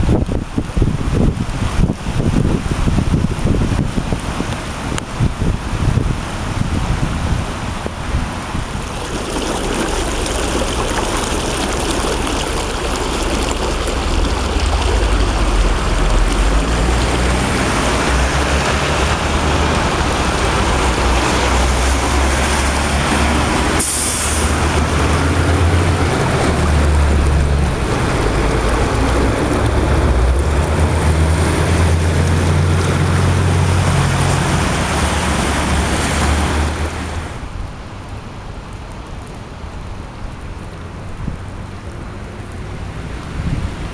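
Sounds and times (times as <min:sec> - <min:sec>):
floodwater rushing: 0:00.0 - 0:43.9
wind rumble on microphone: 0:00.0 - 0:43.9.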